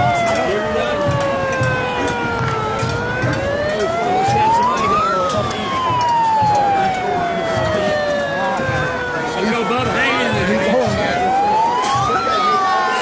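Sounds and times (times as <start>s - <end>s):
large crowd noise: 0.0s - 13.0s
siren wailing: 0.0s - 13.0s.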